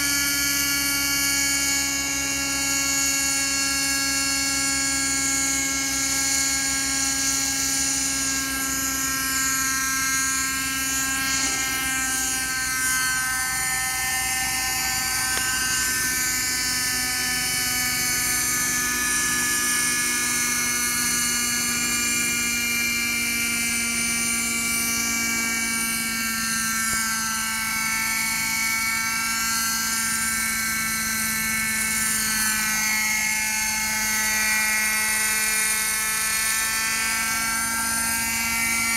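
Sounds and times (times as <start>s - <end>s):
rc helicopter engine whine: 0.0s - 38.9s.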